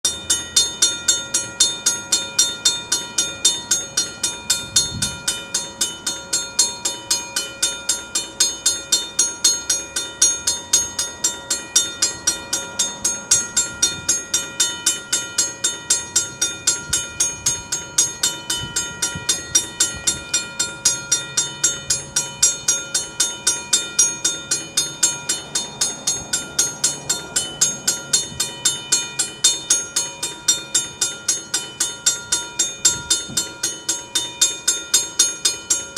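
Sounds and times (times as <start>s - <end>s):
railroad crossing bell ringing: 0.0s - 35.9s.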